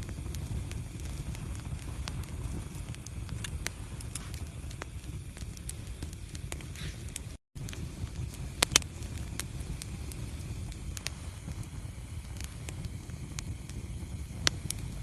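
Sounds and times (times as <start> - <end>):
loud pops from fire: 0.0 - 15.0
wood fire crackling: 0.0 - 15.0.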